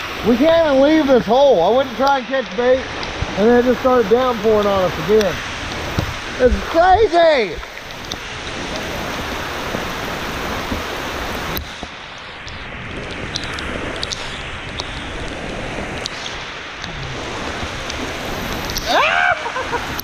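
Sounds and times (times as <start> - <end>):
heavy rain hissing: 0.0 - 20.0
raindrops ticking close by: 0.0 - 20.0.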